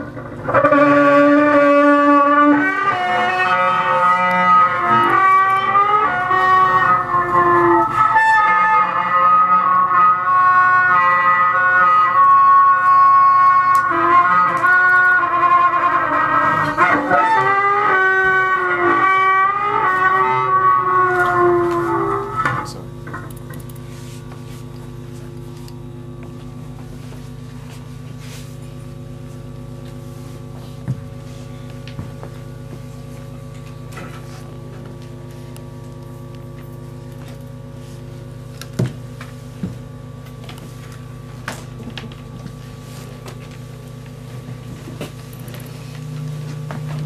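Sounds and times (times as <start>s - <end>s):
electronic drone: 0.0s - 38.9s, 39.6s - 47.0s.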